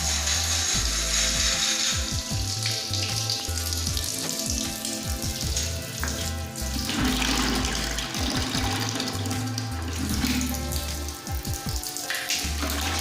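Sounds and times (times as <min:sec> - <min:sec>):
background music with bass line: 0:00.0 - 0:13.0
water spraying with hiss: 0:00.0 - 0:13.0.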